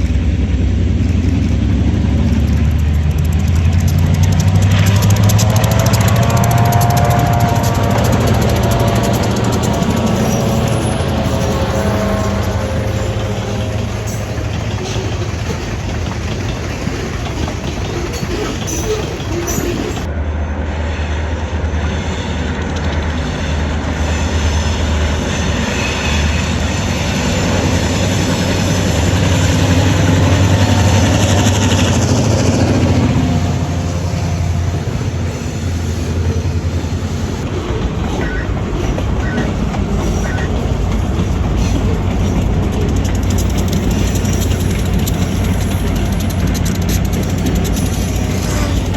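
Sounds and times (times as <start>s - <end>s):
locomotive engine drone: 0.0s - 48.9s
railroad cars rumbling on rails: 0.0s - 48.9s.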